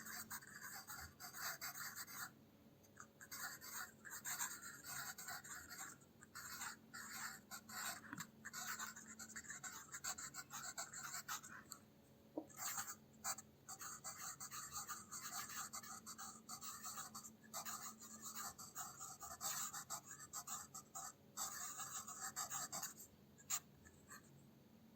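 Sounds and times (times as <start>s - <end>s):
pencil scratching on paper: 0.0s - 2.3s, 3.0s - 11.8s, 12.5s - 24.3s.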